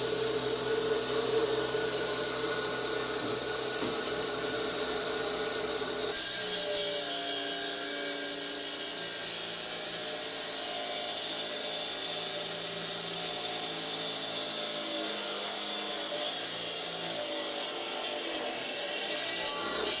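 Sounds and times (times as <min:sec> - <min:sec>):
stone-cutting machine cutting: 0:00.1 - 0:20.0.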